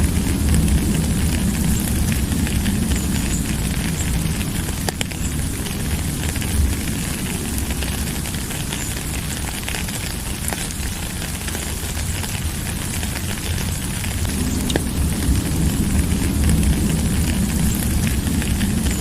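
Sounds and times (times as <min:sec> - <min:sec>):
low rumble: 0:00.0 - 0:19.0
sharp drip ticks: 0:00.0 - 0:19.0
steady rain hiss: 0:00.0 - 0:19.0.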